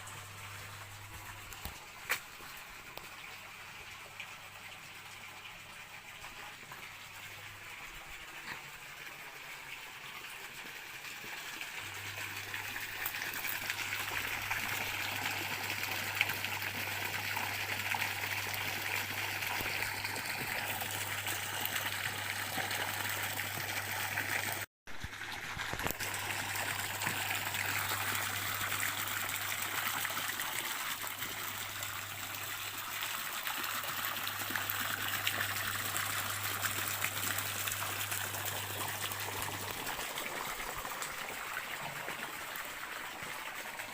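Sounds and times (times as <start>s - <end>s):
stream water over stones: 0.0s - 43.9s.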